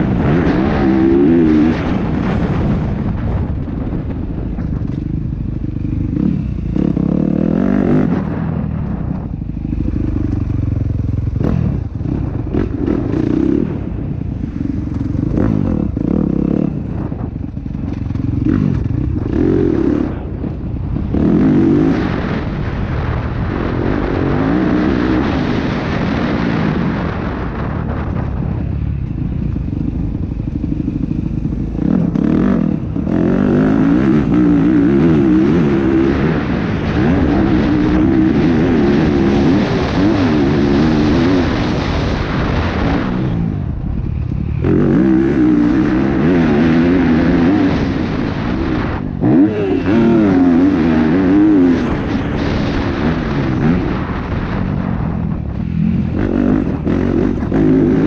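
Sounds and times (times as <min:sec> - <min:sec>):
dirt bike engine revving: 0:00.0 - 0:28.0, 0:29.0 - 0:58.0.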